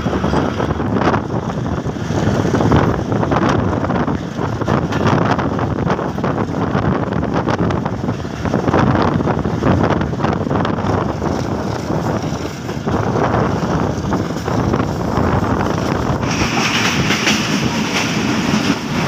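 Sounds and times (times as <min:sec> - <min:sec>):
train rumbling on track: 0:00.0 - 0:19.0
wind buffeting microphone: 0:00.0 - 0:19.0.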